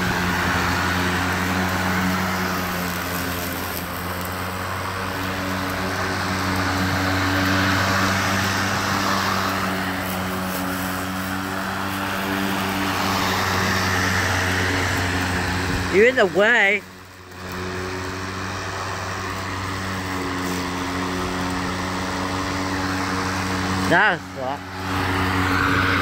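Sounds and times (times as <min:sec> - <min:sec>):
cordless lawn tool motor hum: 0:00.0 - 0:26.0
rushing air: 0:00.0 - 0:26.0.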